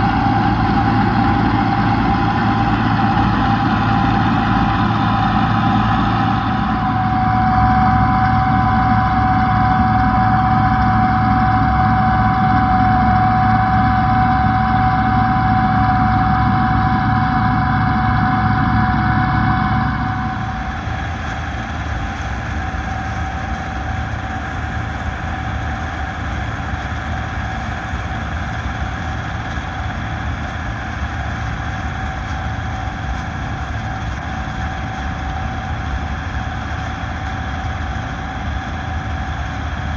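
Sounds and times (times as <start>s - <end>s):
combine harvester diesel engine: 0.0s - 39.9s
steady machine whine: 0.0s - 39.9s.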